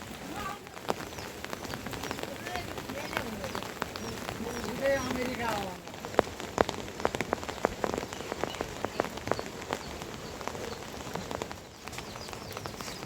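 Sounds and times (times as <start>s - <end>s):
rain drops tapping hard surface: 0.0s - 13.0s
steady rain hiss: 0.0s - 13.0s.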